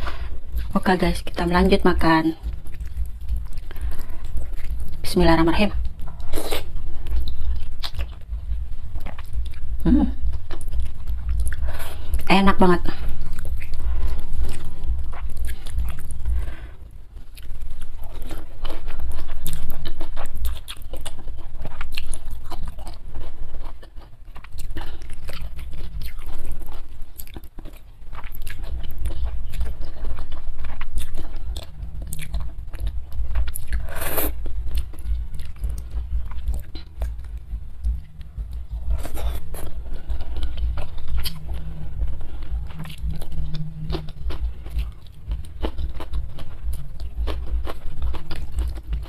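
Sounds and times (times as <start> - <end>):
wet chewing and crunching: 0.0 - 49.0.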